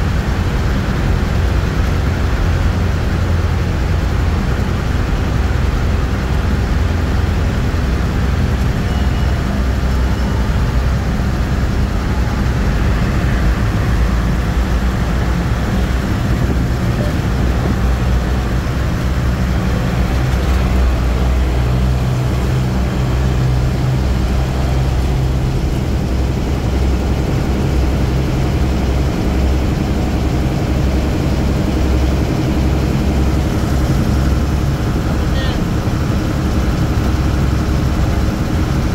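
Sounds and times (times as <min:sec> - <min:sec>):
engine and tyre rumble in tunnel: 0:00.0 - 0:38.9.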